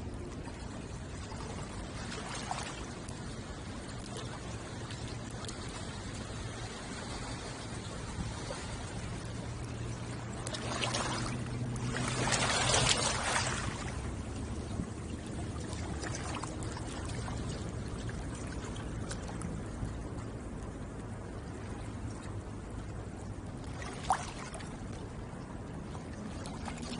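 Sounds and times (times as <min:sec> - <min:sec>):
low hum: 0:00.0 - 0:26.9
water washing against shore: 0:00.0 - 0:26.9.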